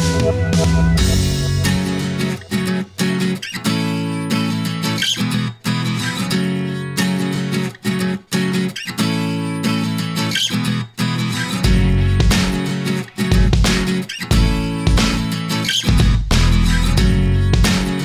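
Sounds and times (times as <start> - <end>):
strummed guitar chords: 0.0 - 18.0.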